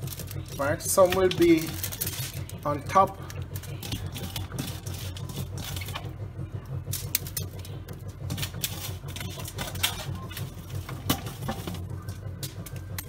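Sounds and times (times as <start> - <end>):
aluminium foil crackling: 0.0 - 13.0
steady low hum: 0.0 - 13.0.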